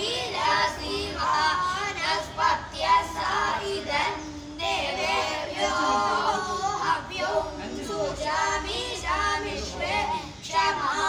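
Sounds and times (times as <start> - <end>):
boys singing a chant: 0.0 - 11.0.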